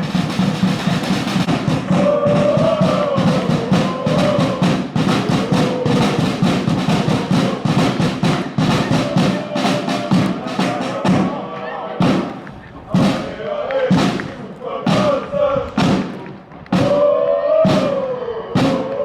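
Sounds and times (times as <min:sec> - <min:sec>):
drum beating fast rhythm: 0:00.0 - 0:19.0
supporters chanting: 0:00.0 - 0:19.0.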